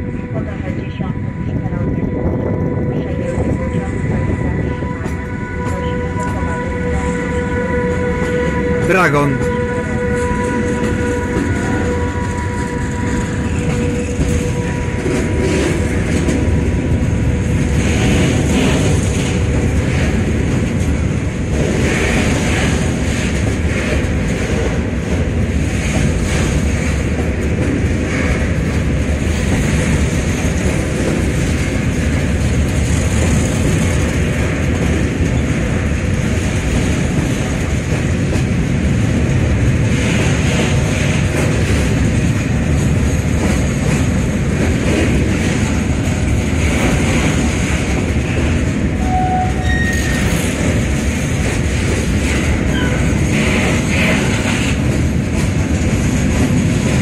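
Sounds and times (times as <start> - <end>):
locomotive multi-tone hum: 0.0 - 57.0
steel wheels rumbling on rail: 0.0 - 57.0.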